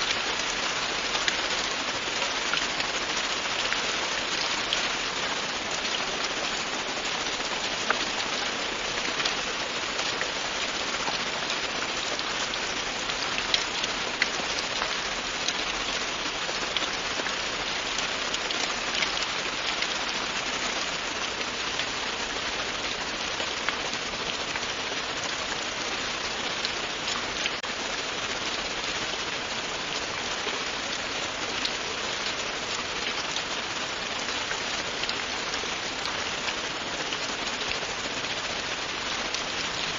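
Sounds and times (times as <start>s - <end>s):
rain falling on a surface: 0.0s - 39.9s
raindrops ticking: 0.0s - 39.9s.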